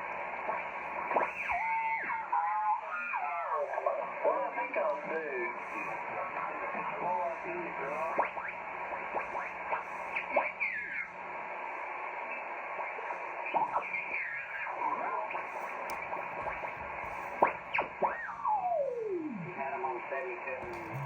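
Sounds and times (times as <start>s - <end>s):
radio band noise hiss: 0.0s - 21.0s.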